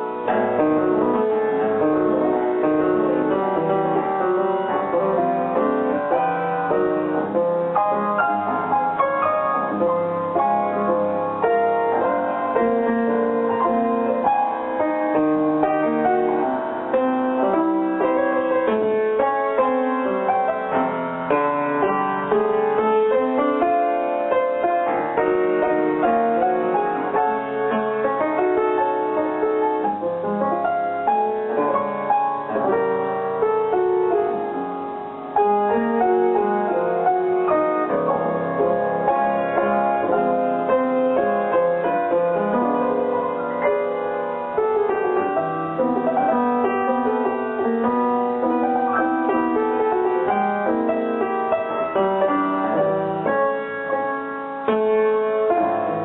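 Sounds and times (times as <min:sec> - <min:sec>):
instrumental piano music: 0:00.0 - 0:56.0.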